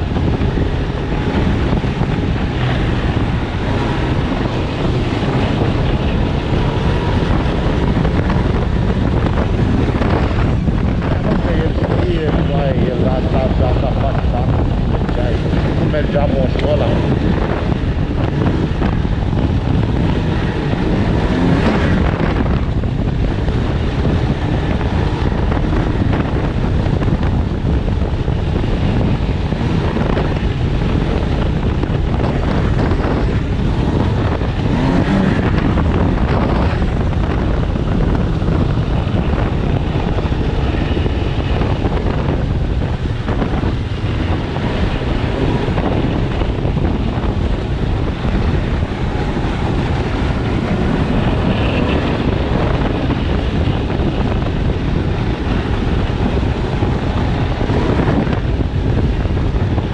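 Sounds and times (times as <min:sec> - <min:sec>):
snowmobile engine running: 0:00.0 - 0:59.9
wind buffeting the microphone: 0:00.0 - 0:59.9.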